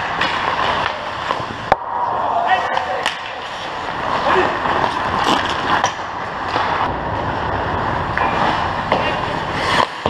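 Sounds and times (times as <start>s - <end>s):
skate blades scraping ice: 0.0s - 1.8s, 2.6s - 10.0s
hockey sticks and puck knocking: 0.0s - 1.9s, 2.6s - 6.9s, 8.1s - 10.0s.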